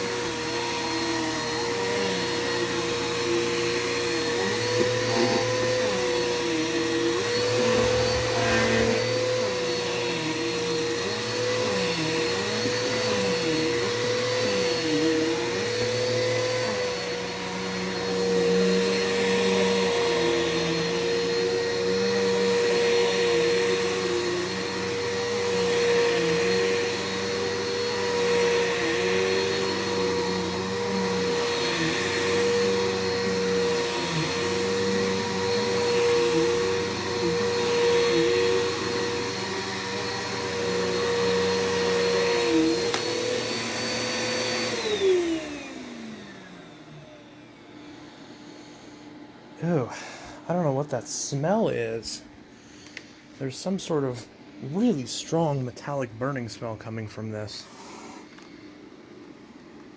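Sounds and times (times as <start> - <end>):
vacuum cleaner running on carpet: 0.0 - 59.9.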